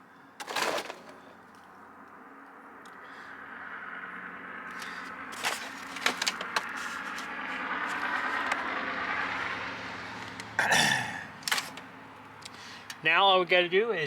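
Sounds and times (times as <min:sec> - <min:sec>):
vehicle passing by: 0:01.0 - 0:13.7.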